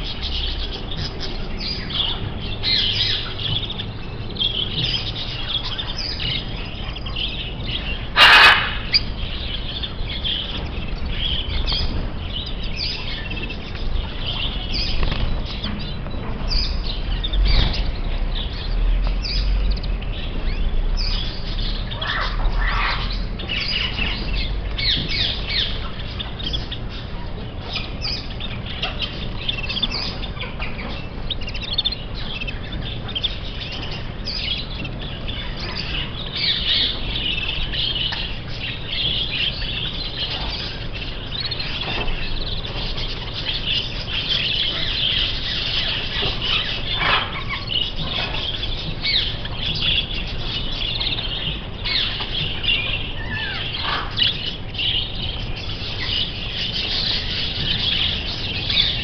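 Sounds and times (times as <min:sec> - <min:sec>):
canaries and finches chirping: 0:00.0 - 0:59.0.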